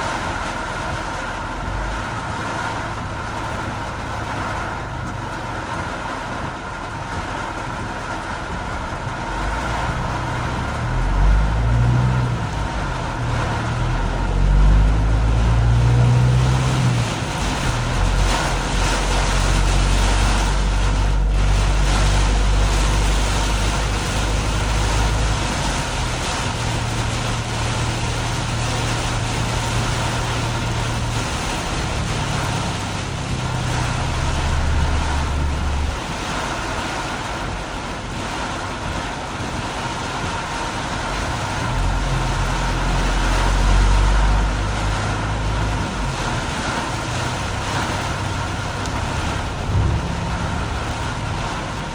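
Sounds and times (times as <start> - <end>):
rain and road spray hiss: 0.0 - 51.9
vehicle low rumble: 0.0 - 51.9.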